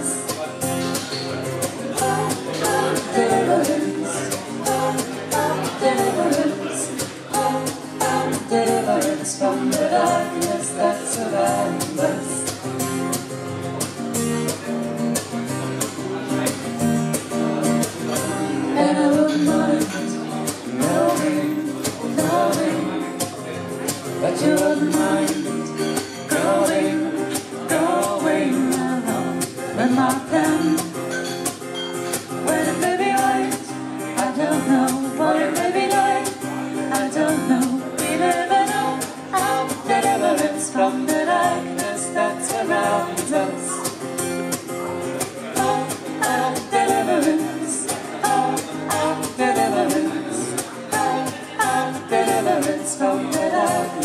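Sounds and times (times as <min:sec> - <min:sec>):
strummed guitar: 0:00.0 - 0:54.0
man and woman singing together: 0:01.6 - 0:12.6, 0:18.0 - 0:44.0, 0:45.2 - 0:54.0.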